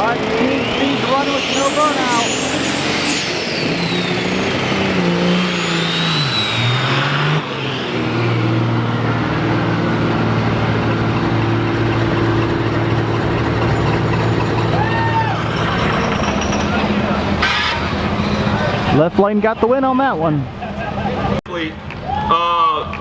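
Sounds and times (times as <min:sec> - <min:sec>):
racing engines revving: 0:00.0 - 0:21.9
steady engine drone: 0:00.0 - 0:21.9.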